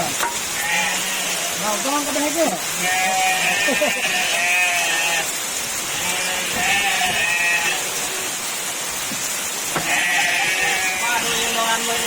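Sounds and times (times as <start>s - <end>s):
heavy rain: 0.0s - 12.0s
goats bleating: 0.6s - 8.2s, 9.8s - 12.0s.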